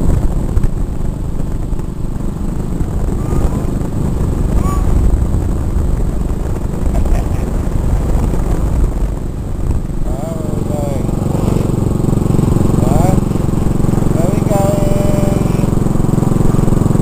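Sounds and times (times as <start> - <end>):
motorbike engine running: 0.0 - 17.0
wind rumbling over microphone: 0.0 - 17.0.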